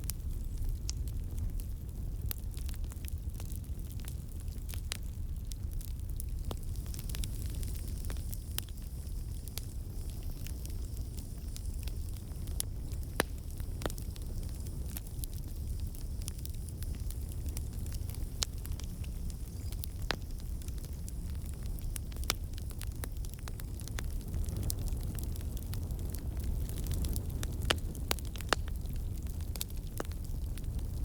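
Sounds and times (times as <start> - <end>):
low rumble of flames: 0.0 - 31.0
wood crackling and popping: 0.0 - 31.0.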